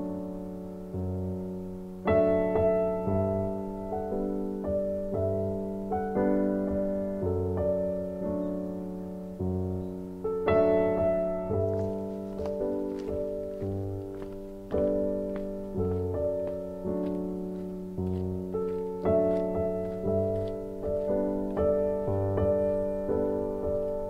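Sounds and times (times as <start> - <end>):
slow gentle piano music: 0.0 - 24.0.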